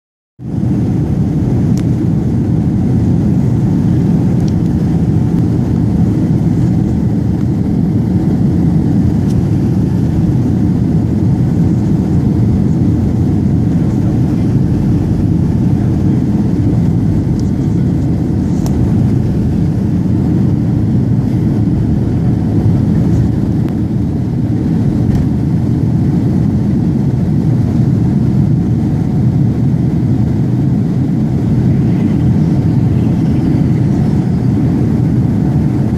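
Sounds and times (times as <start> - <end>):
airliner engines rumbling: 0.4 - 35.9.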